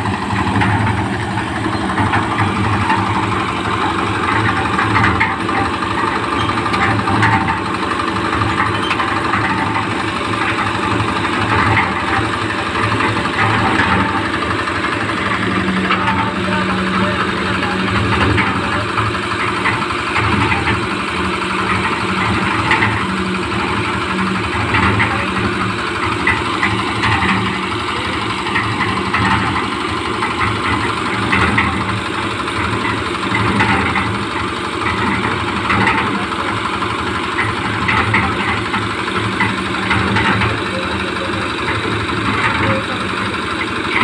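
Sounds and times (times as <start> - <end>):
concrete mixer engine drone: 0.0 - 44.0.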